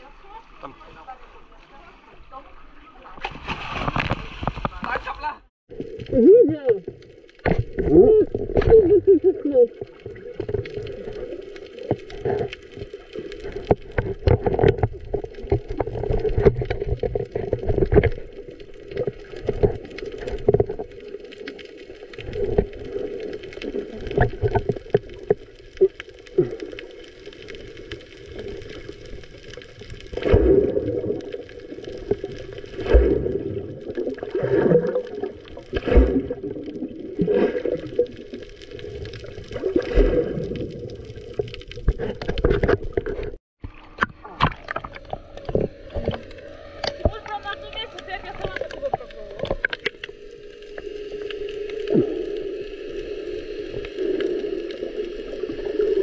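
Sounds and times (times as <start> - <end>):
muffled water sloshing and bubbling: 0.0 - 56.0.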